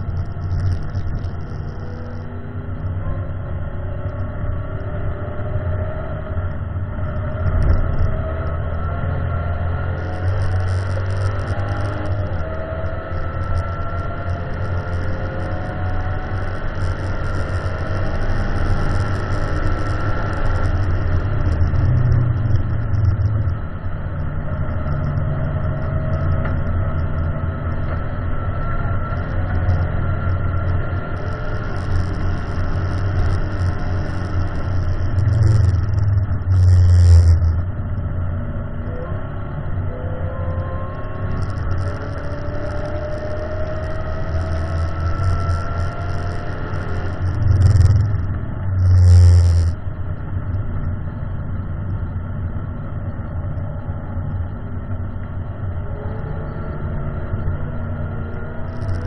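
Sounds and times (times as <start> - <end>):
car engine revving: 0.0 - 50.9, 56.0 - 59.0
road and tyre noise: 0.0 - 59.0.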